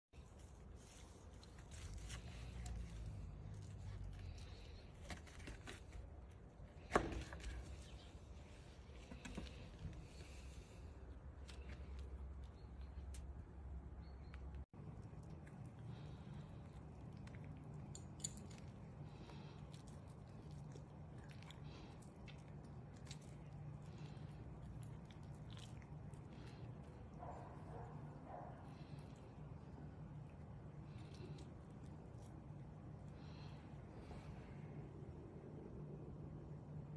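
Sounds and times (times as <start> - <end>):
soft squishing of fish flesh: 0.2 - 6.7, 7.3 - 35.1
faint low hum: 0.2 - 36.9.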